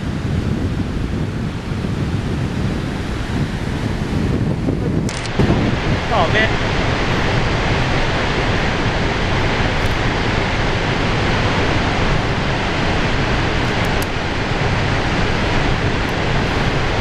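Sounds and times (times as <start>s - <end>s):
waterfall rushing: 2.8s - 17.0s.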